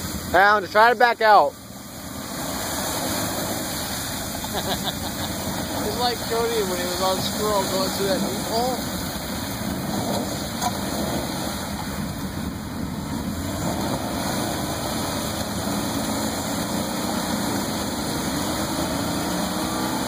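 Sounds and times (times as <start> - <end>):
car engine revving: 0.0 - 20.0
tires churning mud and water: 0.0 - 20.0.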